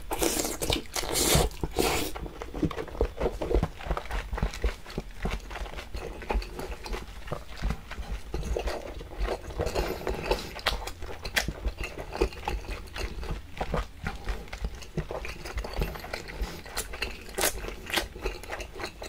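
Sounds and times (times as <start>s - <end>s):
wet chewing mouth noises: 0.0s - 19.0s.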